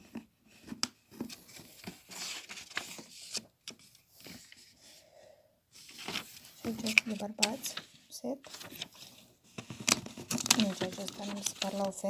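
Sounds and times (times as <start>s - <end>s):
paper rustling and pages turning: 0.0s - 4.8s, 5.7s - 12.0s.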